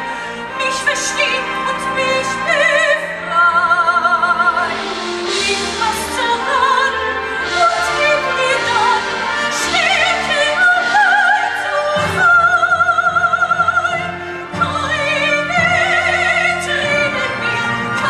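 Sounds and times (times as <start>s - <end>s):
soprano singing with vibrato: 0.0s - 18.0s
theatre orchestra: 0.0s - 18.0s.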